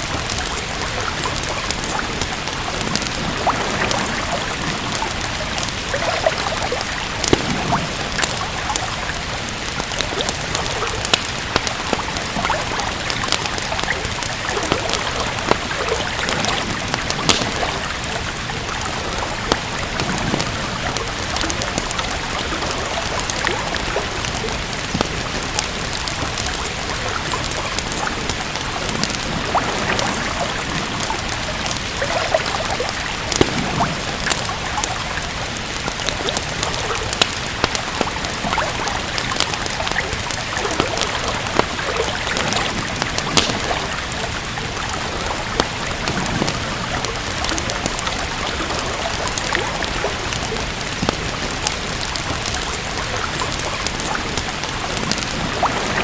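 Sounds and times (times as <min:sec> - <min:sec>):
steady rain falling: 0:00.0 - 0:56.0
wood fire crackling in fireplace: 0:00.0 - 0:56.0.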